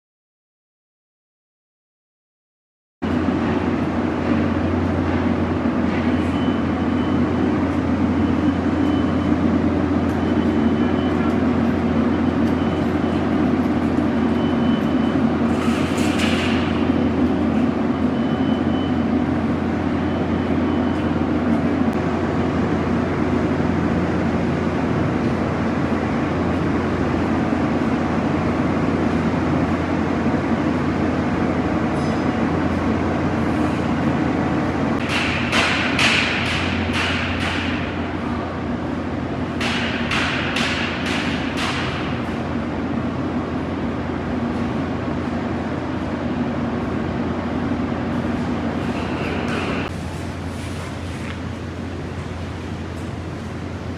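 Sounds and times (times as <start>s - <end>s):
low mechanical hum: 3.0s - 53.9s.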